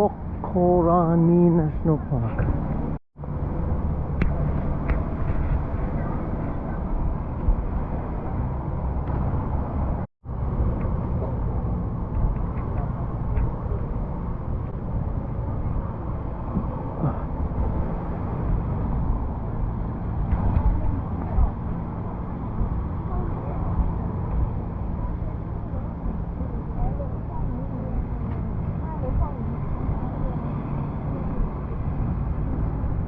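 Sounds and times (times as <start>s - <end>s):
vehicle engine drone: 0.0s - 33.0s.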